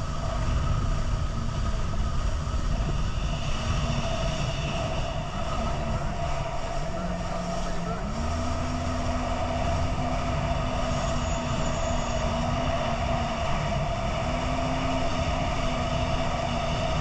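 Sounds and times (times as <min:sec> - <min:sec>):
boat motor droning: 0:00.0 - 0:17.0
rush of wind and water: 0:00.0 - 0:17.0.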